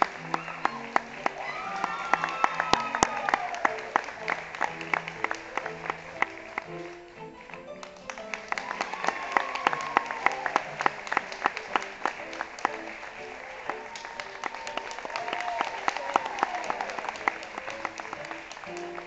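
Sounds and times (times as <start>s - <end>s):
audience clapping: 0.0s - 19.0s
instrumental music: 0.0s - 19.0s.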